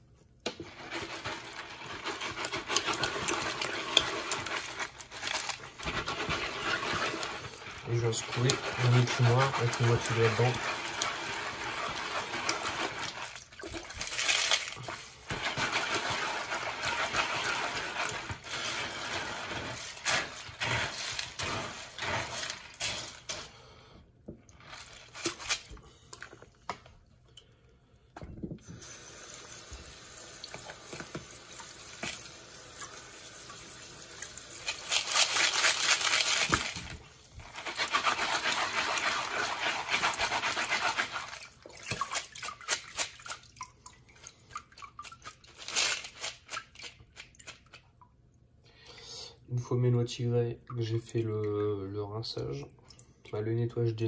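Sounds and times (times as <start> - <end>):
water splashing in colander: 0.5 - 23.8, 24.5 - 26.9, 28.7 - 48.2.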